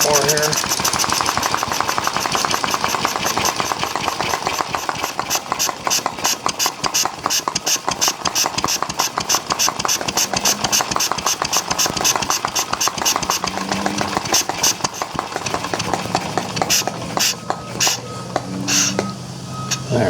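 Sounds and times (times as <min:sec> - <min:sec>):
engine idling with popping strokes: 0:00.0 - 0:20.0.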